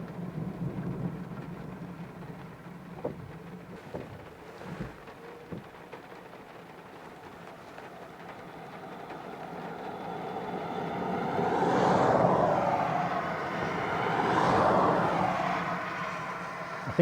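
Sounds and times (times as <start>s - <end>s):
vehicles passing on wet road: 0.0s - 17.0s.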